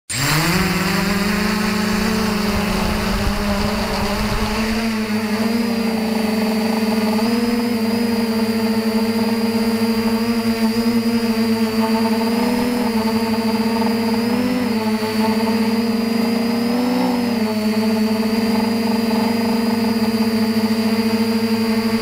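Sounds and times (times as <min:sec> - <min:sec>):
drone motors buzzing: 0:00.1 - 0:22.0.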